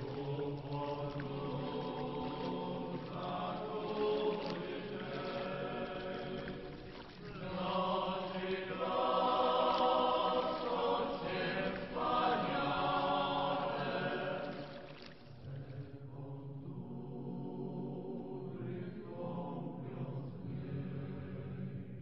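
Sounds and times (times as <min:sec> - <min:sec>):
slow sung chant: 0:00.0 - 0:22.0.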